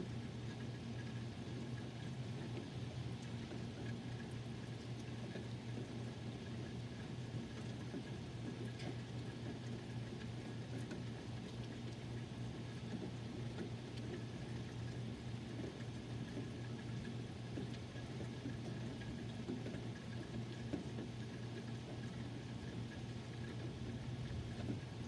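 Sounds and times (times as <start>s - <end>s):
rain falling on trees: 0.0s - 25.0s.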